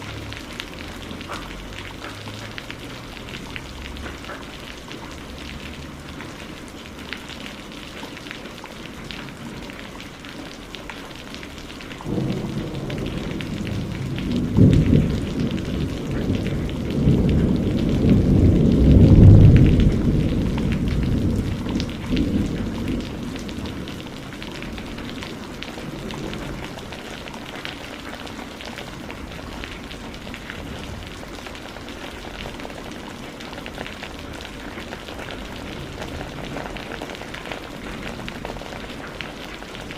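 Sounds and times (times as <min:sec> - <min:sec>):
thunder rumbling: 0:00.0 - 0:09.8, 0:11.4 - 0:39.9
rain falling: 0:00.0 - 0:39.9.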